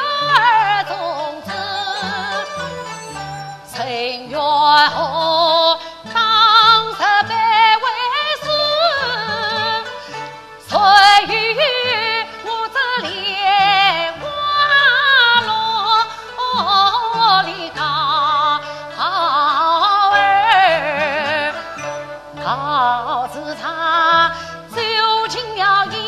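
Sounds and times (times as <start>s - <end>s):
instrumental accompaniment: 0.0s - 26.0s.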